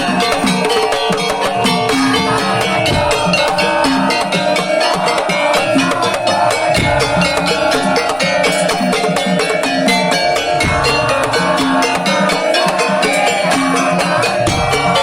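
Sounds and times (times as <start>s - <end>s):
drum beats: 0.0s - 15.0s
pitched melody: 0.0s - 15.0s
wooden percussion strokes: 0.0s - 15.0s.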